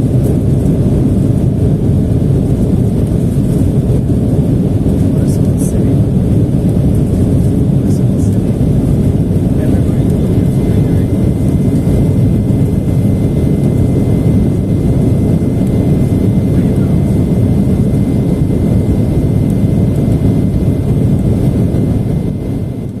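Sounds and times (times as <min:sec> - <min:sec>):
airflow over fuselage: 0:00.0 - 0:23.0
jet engines droning: 0:00.0 - 0:23.0.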